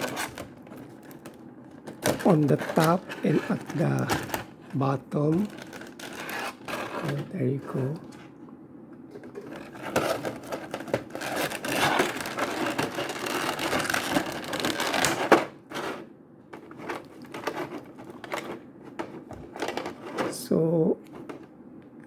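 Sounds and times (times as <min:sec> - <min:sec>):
packaging crinkling and rustling: 0:00.0 - 0:08.4, 0:09.1 - 0:21.5.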